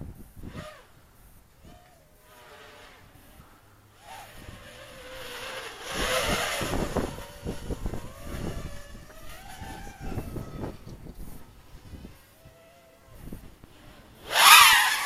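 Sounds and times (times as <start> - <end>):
drone motors whining: 0.0 - 15.0
wind rush on microphone: 0.0 - 15.0.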